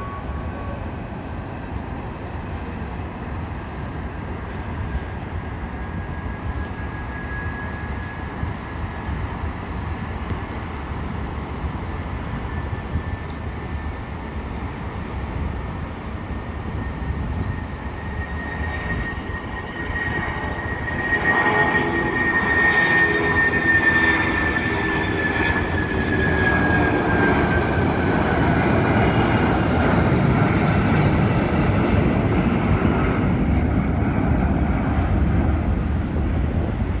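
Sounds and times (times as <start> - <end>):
high jet engine whine: 0.0 - 37.0
jet roar: 0.0 - 37.0.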